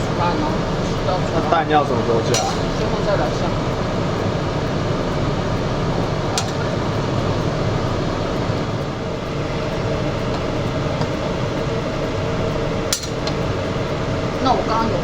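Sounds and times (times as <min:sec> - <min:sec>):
range hood fan whirring: 0:00.0 - 0:15.0.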